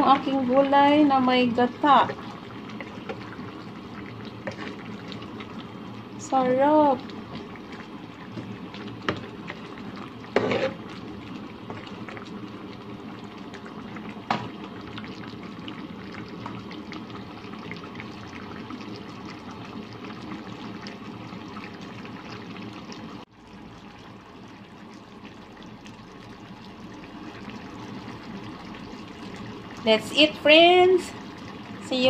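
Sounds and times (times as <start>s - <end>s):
stew bubbling in a pan: 0.0s - 32.0s.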